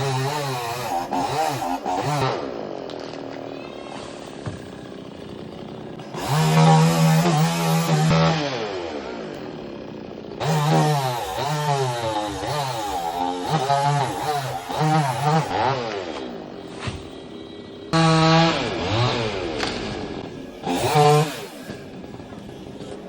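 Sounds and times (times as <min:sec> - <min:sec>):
chainsaw cutting a tree: 0:00.0 - 0:02.8, 0:04.1 - 0:16.3, 0:18.0 - 0:23.0.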